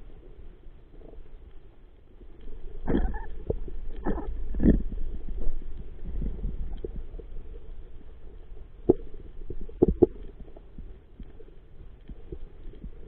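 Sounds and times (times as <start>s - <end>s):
underwater rumble of moving water: 0.0s - 13.0s.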